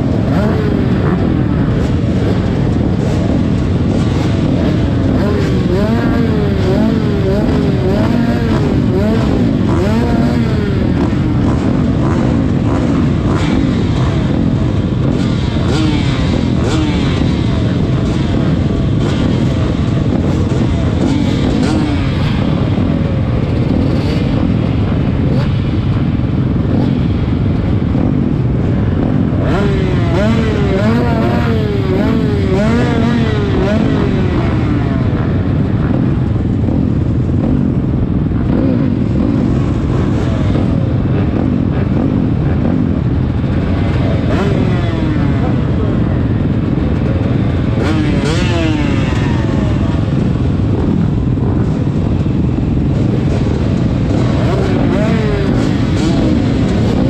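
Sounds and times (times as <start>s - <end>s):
motocross bike engines droning: 0.0s - 57.0s.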